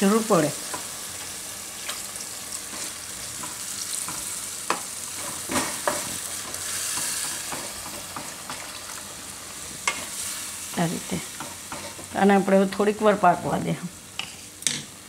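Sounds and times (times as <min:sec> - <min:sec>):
sizzle of frying: 0:00.0 - 0:15.0.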